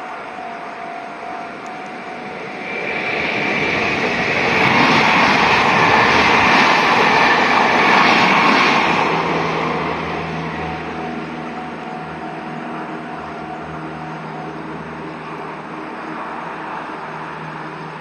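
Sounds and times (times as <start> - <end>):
electric train passing: 0.0 - 18.0.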